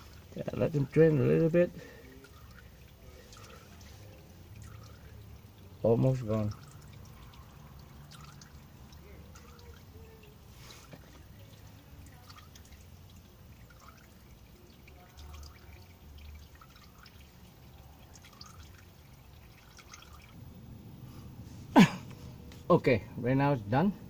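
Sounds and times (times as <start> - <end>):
oil trickling into pan: 0.0 - 20.6
oil drips: 0.0 - 24.0.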